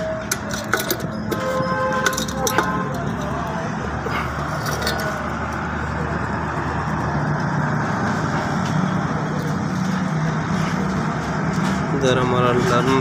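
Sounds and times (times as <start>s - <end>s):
passing traffic rumble: 0.0s - 13.0s.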